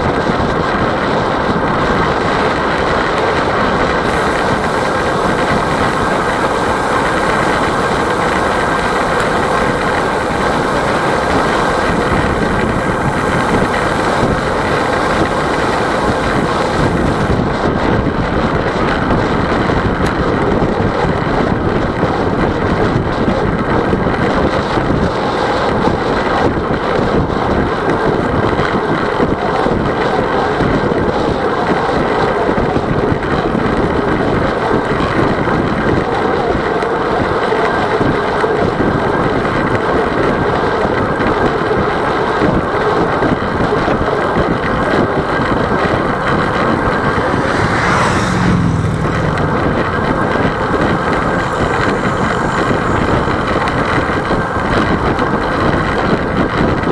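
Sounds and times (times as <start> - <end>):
tyres rolling on asphalt: 0.0 - 56.9
wind buffeting microphone: 0.0 - 56.9.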